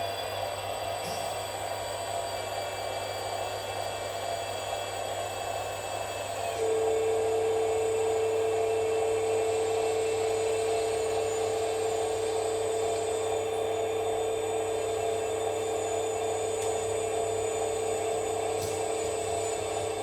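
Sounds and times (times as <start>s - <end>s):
loud high whine: 0.0s - 20.0s
small electric motor whine: 0.0s - 20.0s.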